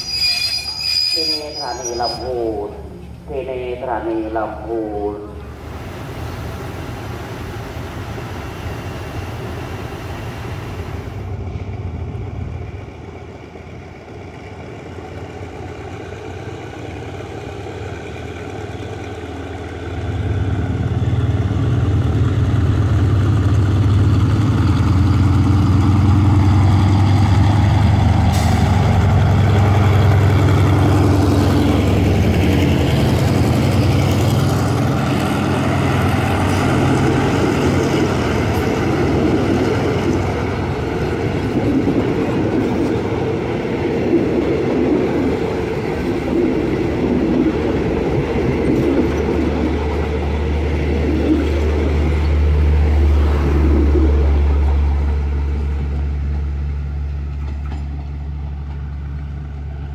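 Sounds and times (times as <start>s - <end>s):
locomotive engine drone: 0.0s - 59.9s.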